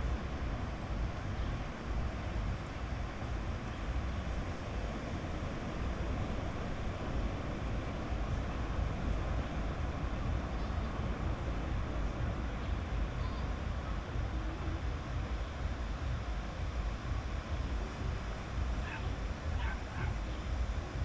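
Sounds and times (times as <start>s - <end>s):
sea surf washing onto beach: 0.0s - 21.0s.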